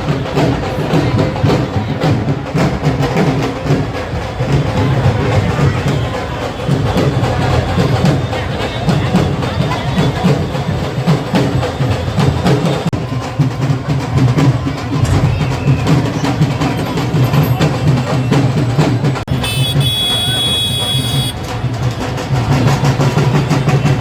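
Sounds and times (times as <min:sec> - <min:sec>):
procession drums beating: 0:00.0 - 0:24.0.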